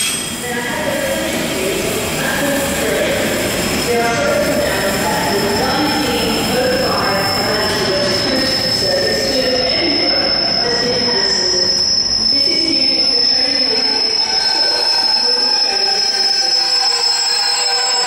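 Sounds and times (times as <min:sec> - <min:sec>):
train running on rails: 0:00.0 - 0:18.0
train wheels squealing: 0:00.0 - 0:18.0.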